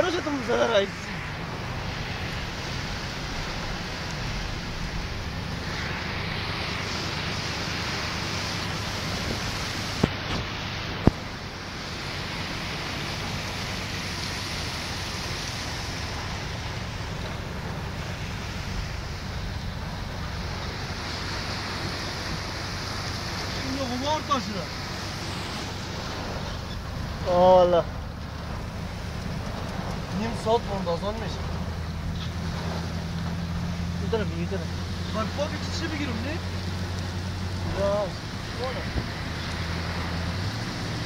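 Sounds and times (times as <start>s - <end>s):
heavy rain hissing: 0.0s - 41.0s
tyres on wet road: 0.0s - 41.0s.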